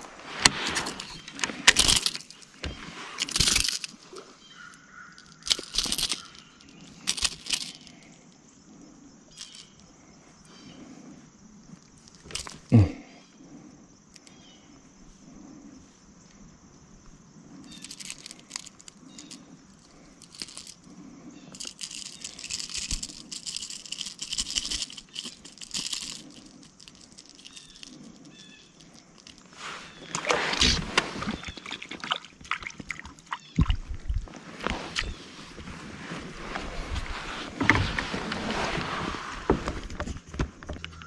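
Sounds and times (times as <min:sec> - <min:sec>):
crackly rustling: 0:00.0 - 0:12.9, 0:13.5 - 0:41.0.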